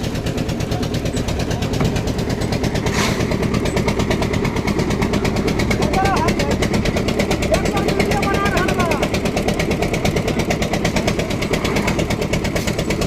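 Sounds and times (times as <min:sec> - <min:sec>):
concrete mixer engine chugging: 0:00.0 - 0:13.0.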